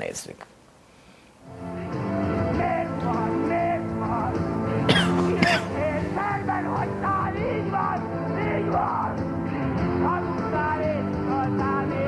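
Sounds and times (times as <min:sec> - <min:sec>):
instrumental accompaniment: 0:01.5 - 0:12.0
man singing: 0:02.0 - 0:12.0.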